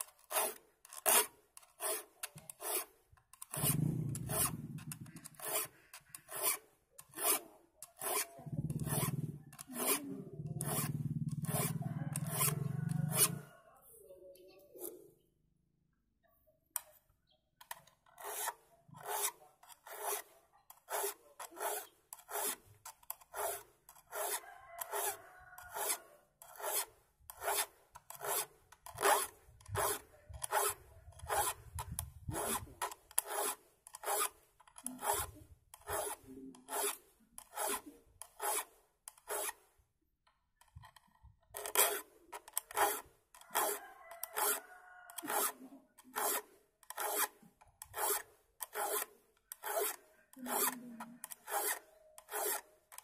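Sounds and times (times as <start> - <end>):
file rasping on saw teeth: 0.0 - 13.5, 17.6 - 39.7, 40.7 - 53.0.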